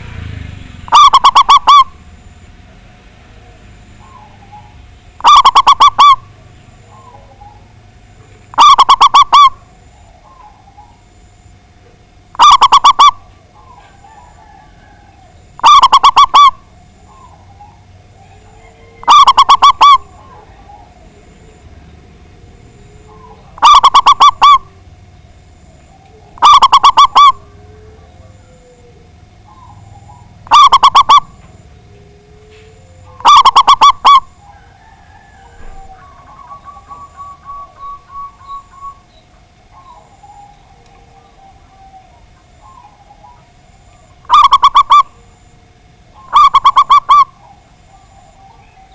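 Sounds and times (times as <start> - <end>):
small birds chirping: 0.0 - 11.6, 12.4 - 48.9
dove trilled cooing: 0.0 - 48.9.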